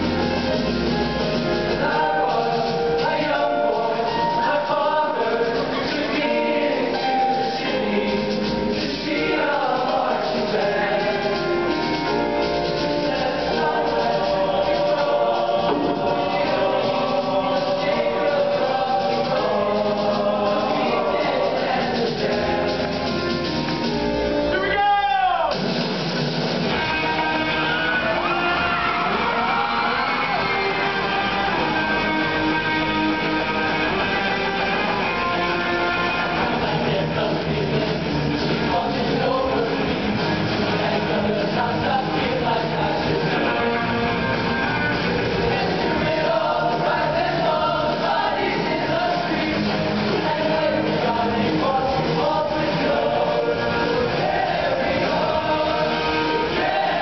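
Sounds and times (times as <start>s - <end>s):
male choir singing in parts: 0.0s - 24.0s, 26.7s - 57.0s
amplified band: 0.0s - 57.0s.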